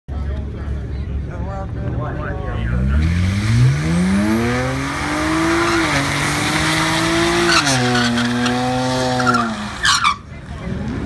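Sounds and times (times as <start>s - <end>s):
car engine at full throttle: 0.1s - 11.0s.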